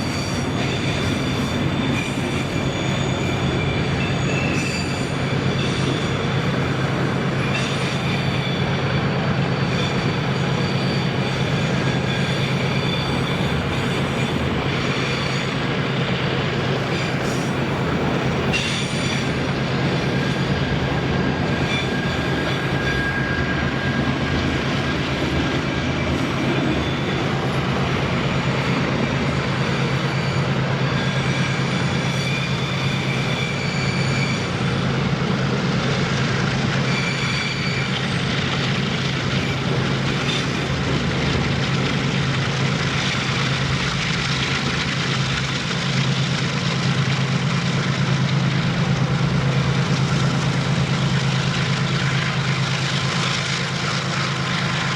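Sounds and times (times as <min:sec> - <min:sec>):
freight train rolling on rails: 0:00.0 - 0:54.9
train wheel squeal: 0:00.0 - 0:54.9.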